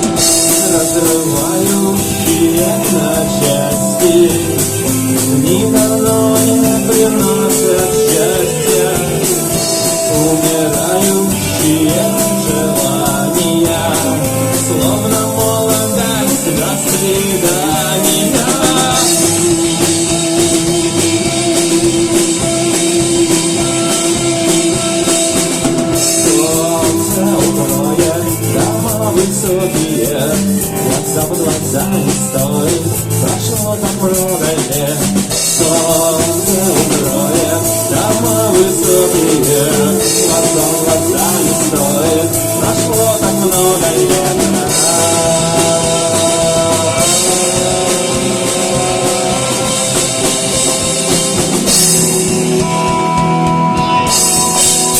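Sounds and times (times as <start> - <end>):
drum kit beat: 0.0 - 54.9
guitar: 0.0 - 54.9
rock song: 0.0 - 54.9.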